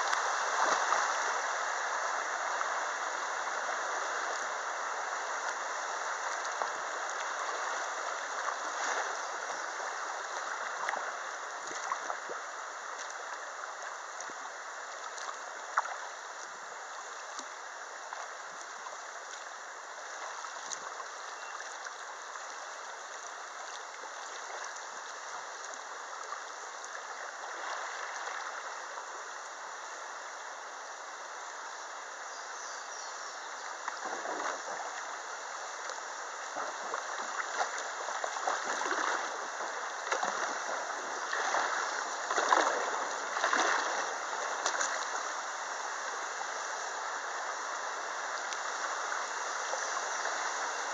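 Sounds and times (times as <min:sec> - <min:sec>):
kayak paddle splashes: 0:00.0 - 0:30.6, 0:33.0 - 0:50.9
water rushing over rocks: 0:00.0 - 0:32.2, 0:33.5 - 0:50.9.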